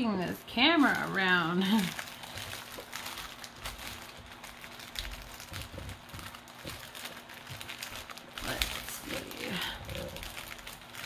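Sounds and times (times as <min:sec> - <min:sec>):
plastic mailer bag crinkling: 0:00.0 - 0:11.0.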